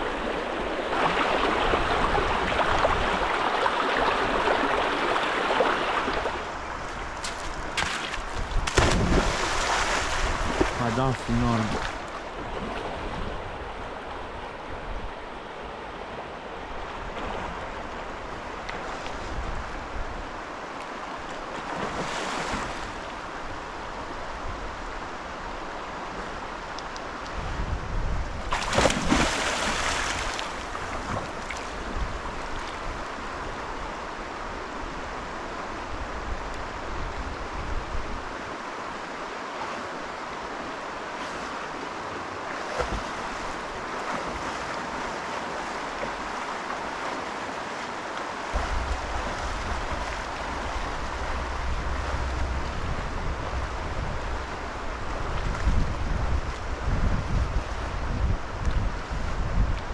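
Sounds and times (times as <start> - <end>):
wind rumbling on microphone: 0.0 - 39.0, 48.4 - 59.9
river water rippling and splashing: 0.0 - 59.9.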